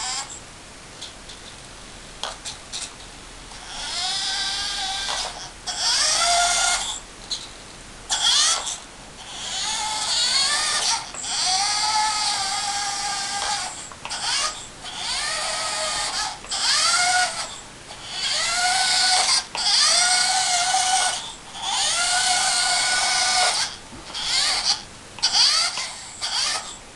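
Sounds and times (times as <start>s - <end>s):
small electric motors whining: 0.0s - 0.4s, 3.5s - 7.0s, 8.1s - 26.8s.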